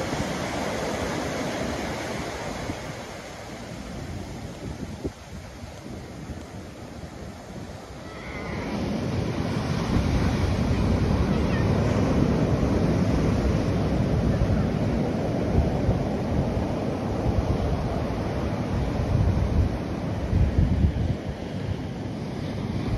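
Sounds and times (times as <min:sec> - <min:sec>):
ocean surf breaking on beach: 0:00.0 - 0:22.9
wind rumble on microphone: 0:00.0 - 0:22.9.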